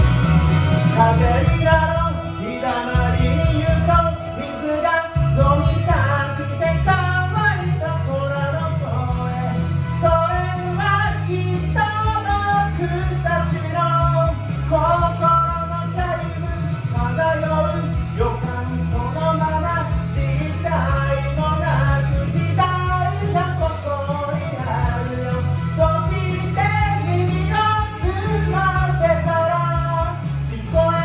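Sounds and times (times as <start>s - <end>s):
pop-rock song with vocals: 0.0s - 31.0s
steady bass: 0.0s - 31.0s.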